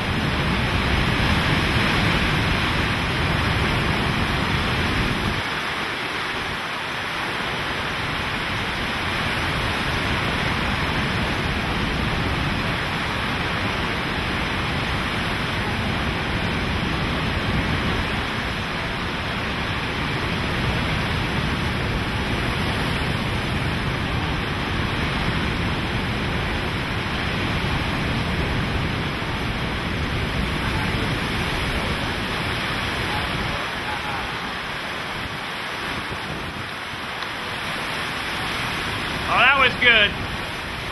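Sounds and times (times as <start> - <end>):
heavy rain: 0.0 - 40.9
hurricane-force wind: 0.0 - 40.9.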